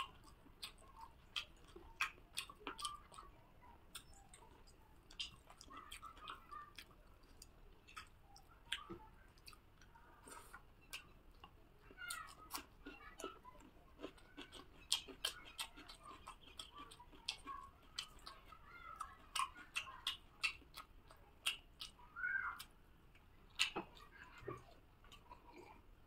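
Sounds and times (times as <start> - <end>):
fingers working food on a plate: 0.0 - 25.7
wet chewing smacks: 0.0 - 25.8.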